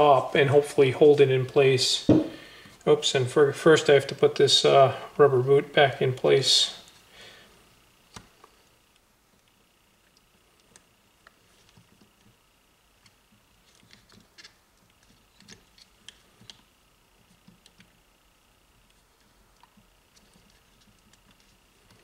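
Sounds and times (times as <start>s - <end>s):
room hiss: 0.0s - 22.0s.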